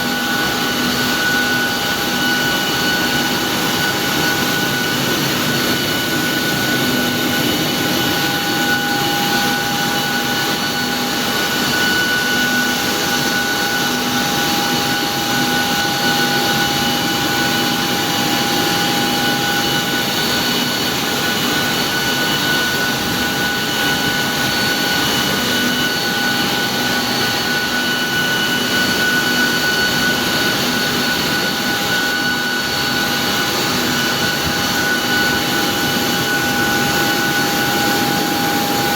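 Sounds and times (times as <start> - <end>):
jet turbine whine: 0.0 - 38.9.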